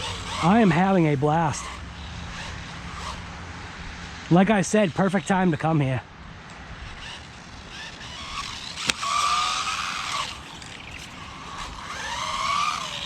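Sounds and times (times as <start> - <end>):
rc car electric motor whining: 0.0 - 6.0, 6.7 - 13.0.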